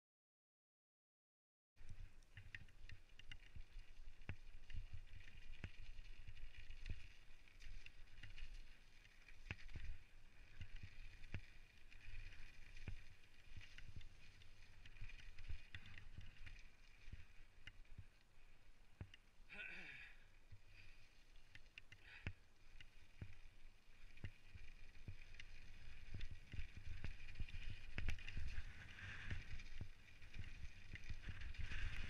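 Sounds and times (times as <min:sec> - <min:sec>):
bike knocking and rattling: 0:01.8 - 0:18.2, 0:20.8 - 0:32.0
bike tyres rumbling on gravel: 0:01.8 - 0:18.2, 0:20.6 - 0:32.0.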